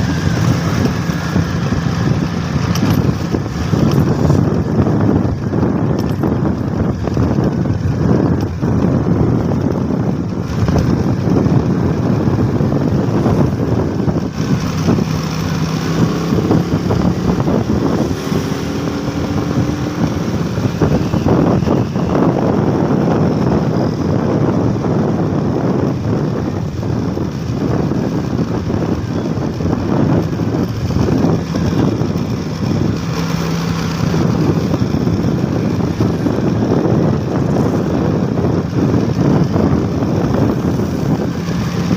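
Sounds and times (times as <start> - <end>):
road traffic noise: 0.0 - 41.9
vehicle engine hum: 0.0 - 41.9
wind rumbling on microphone: 0.0 - 41.9.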